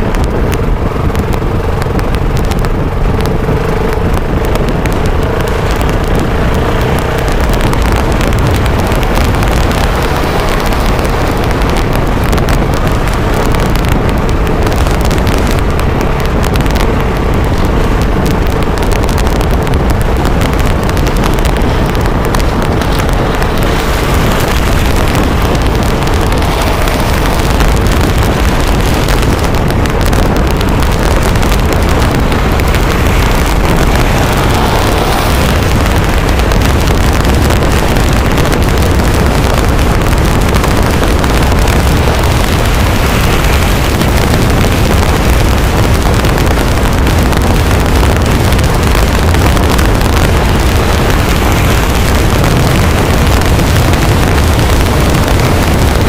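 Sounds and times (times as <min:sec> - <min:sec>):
dirt bike engine: 0:00.0 - 0:56.0
wind buffeting microphone: 0:00.0 - 0:56.0.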